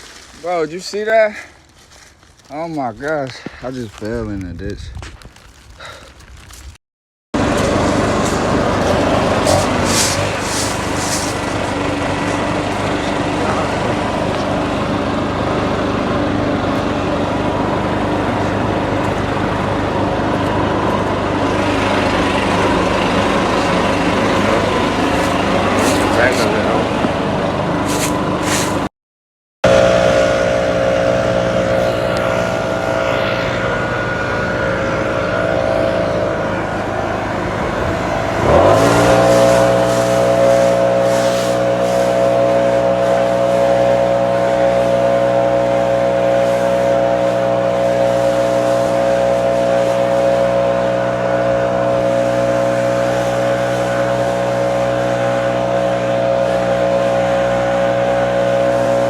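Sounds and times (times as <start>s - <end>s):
engine running and revving up: 7.4s - 28.9s, 29.6s - 59.0s.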